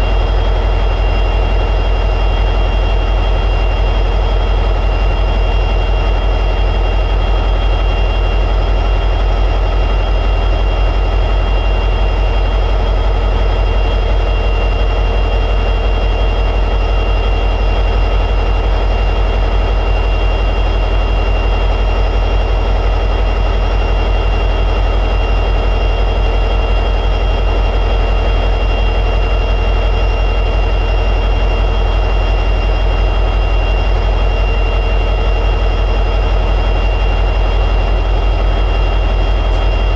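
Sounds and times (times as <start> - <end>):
diesel locomotive engine droning: 0.0 - 39.9
thin steady whine: 0.0 - 39.9.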